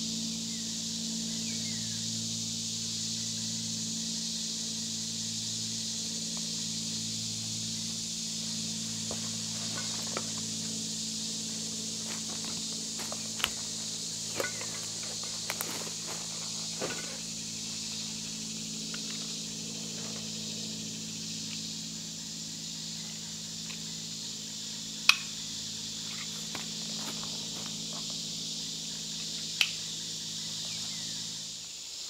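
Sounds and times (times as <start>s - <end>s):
low steady hum: 0.0s - 31.8s
woodland insects buzzing: 0.0s - 32.0s.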